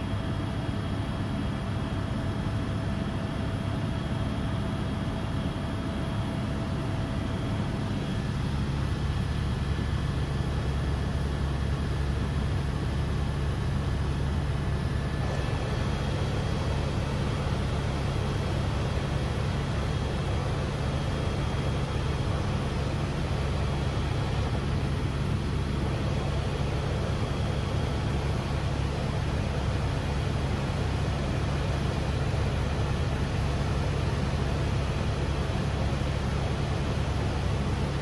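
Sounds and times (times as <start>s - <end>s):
helicopter engine and rotor drone: 0.0s - 38.0s.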